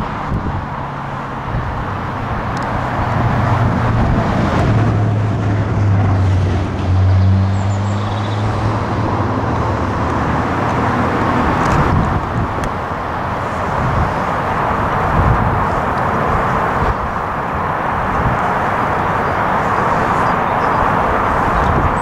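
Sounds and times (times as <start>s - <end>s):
diesel locomotive hum: 0.0s - 22.0s.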